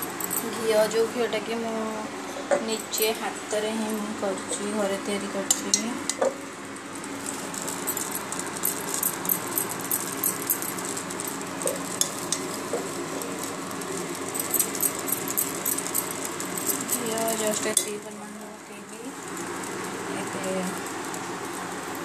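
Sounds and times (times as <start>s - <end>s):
ghee sizzling in a pot: 3.0s - 22.0s.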